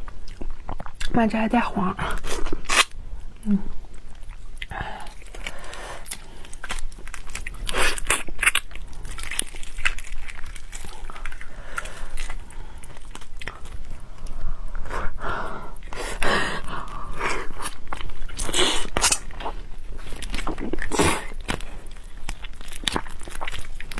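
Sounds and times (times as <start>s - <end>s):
chewing prawn: 0.0s - 23.9s.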